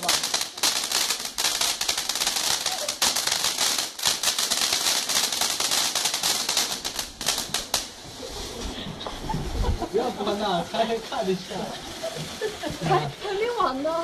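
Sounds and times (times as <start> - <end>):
firework crackling: 0.0 - 14.0.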